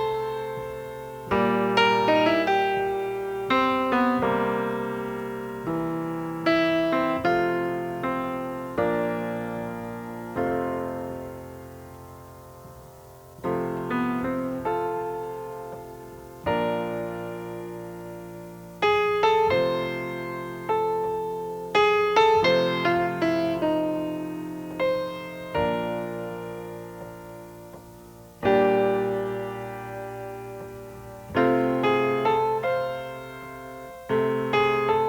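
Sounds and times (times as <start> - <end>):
slow solo piano: 0.0 - 35.0.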